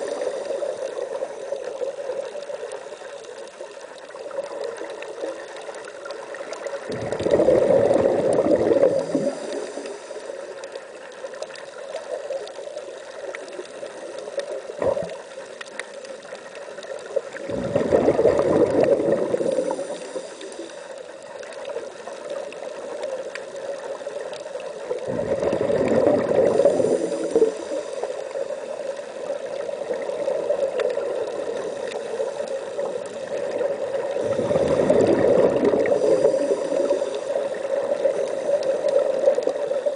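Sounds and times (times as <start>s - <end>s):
exhaled air bubbling underwater: 0.0s - 39.9s
steady underwater hiss: 0.0s - 39.9s.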